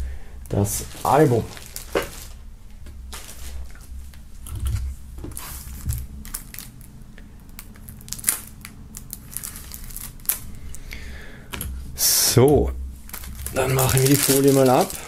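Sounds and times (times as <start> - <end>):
shrink-wrap crinkling: 0.5 - 10.9, 13.0 - 15.0.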